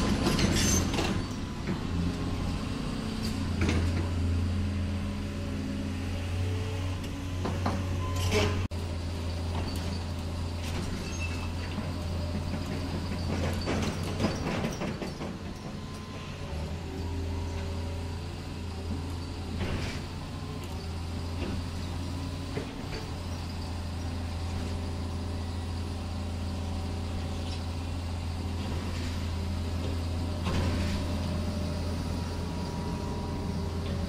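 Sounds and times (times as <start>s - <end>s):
soil scraping and rattling: 0.0s - 4.3s, 8.0s - 17.7s, 18.7s - 34.0s.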